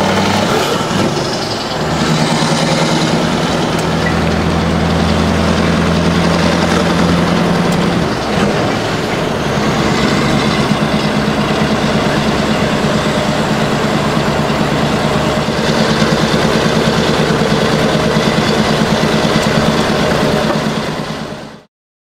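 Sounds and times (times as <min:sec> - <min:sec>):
diesel truck engine running: 0:00.0 - 0:21.7.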